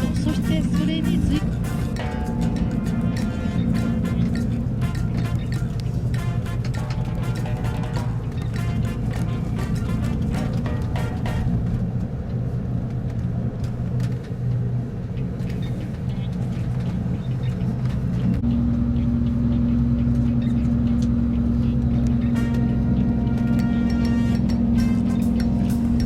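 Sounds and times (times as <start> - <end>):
low rumble of moving vehicle: 0.0 - 26.0.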